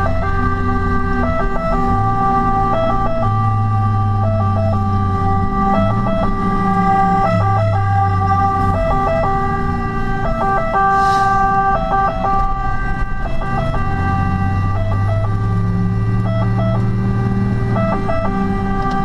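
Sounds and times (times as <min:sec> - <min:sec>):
diesel engine running: 0:00.0 - 0:19.0
two-tone siren: 0:00.0 - 0:19.0.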